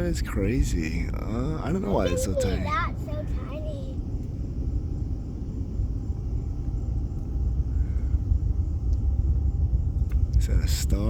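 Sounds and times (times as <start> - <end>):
distant rocket launch rumble: 0.0 - 11.0.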